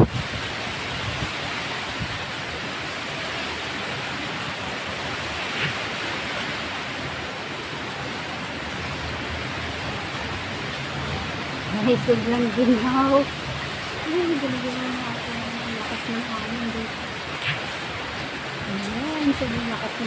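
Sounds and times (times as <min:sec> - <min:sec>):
strong wind through leaves: 0:00.0 - 0:20.0.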